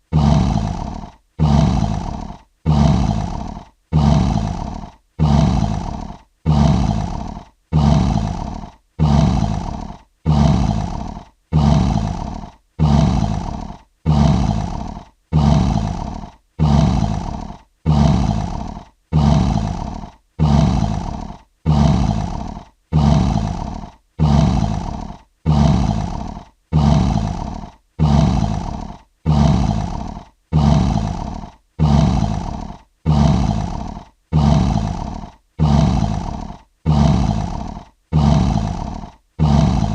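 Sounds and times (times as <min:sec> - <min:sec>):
lion roaring: 0:00.1 - 0:39.9.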